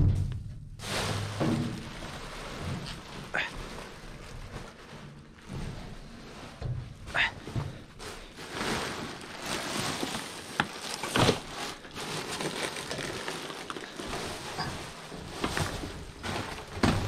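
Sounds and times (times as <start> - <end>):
plastic bags rustling: 0.8 - 17.0.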